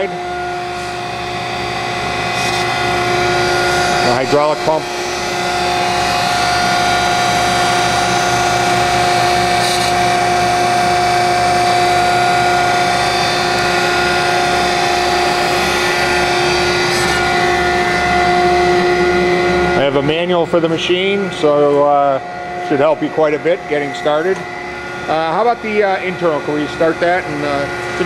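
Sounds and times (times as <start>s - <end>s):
grinder machine humming: 0.0s - 28.0s.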